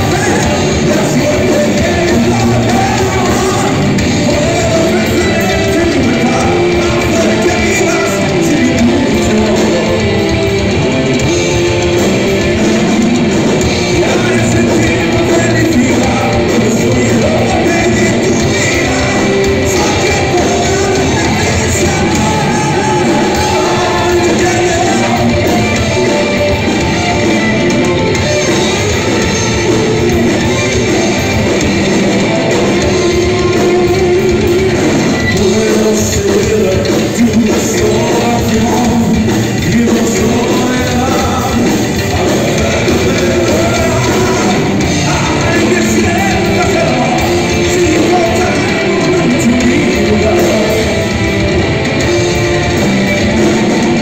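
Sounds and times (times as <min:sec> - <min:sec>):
heavy metal band playing: 0:00.0 - 0:54.0
man singing: 0:00.0 - 0:54.0.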